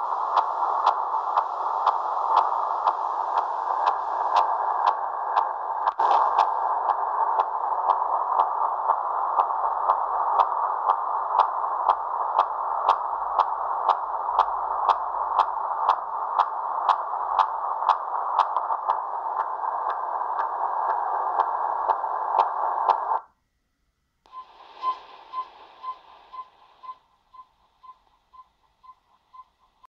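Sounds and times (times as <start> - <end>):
short radio pips: 0.0 - 23.2, 24.3 - 29.9
radio hiss with ticks: 0.0 - 23.3, 24.2 - 29.9.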